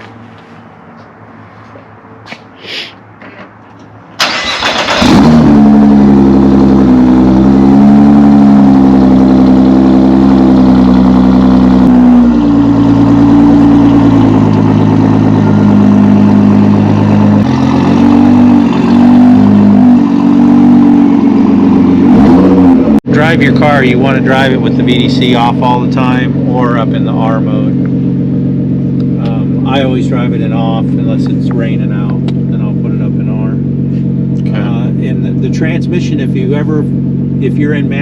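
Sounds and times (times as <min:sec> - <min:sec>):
car engine starting: 0:03.2 - 0:38.0
car engine idling loud: 0:04.2 - 0:38.0.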